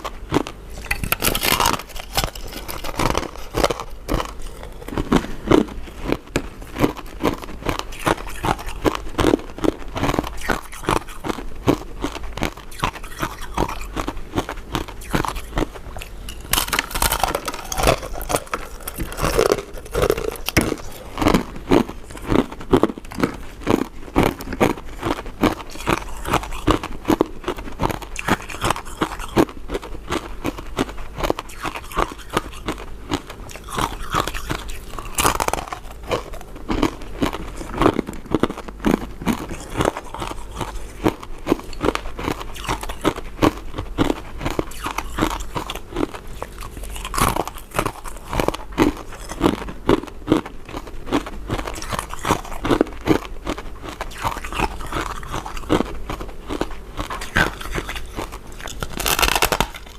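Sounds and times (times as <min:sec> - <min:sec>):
person chewing crunchy sweets: 0:00.0 - 0:59.9.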